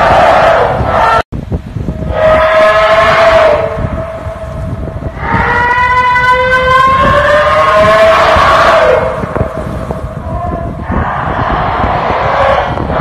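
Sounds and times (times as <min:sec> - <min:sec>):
siren-like howl: 0:02.0 - 0:13.0.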